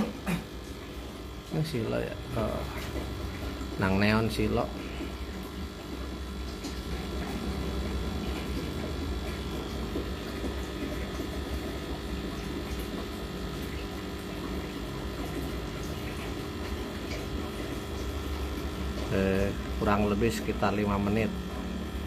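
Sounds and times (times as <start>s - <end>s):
aquarium pump humming: 0.0s - 22.0s
moving water: 0.0s - 22.0s.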